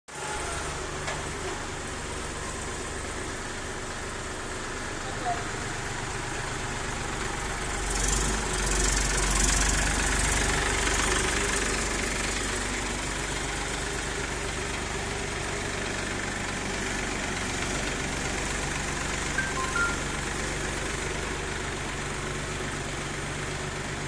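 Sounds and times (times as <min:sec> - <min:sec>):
tractor diesel engine running: 0:00.2 - 0:24.0.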